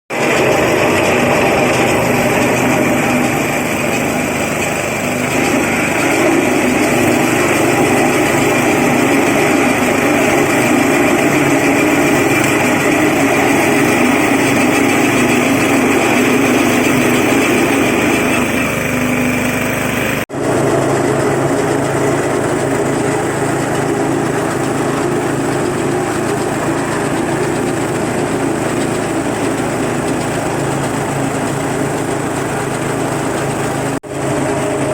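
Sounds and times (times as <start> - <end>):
salt grinding machine running: 0.1 - 34.9.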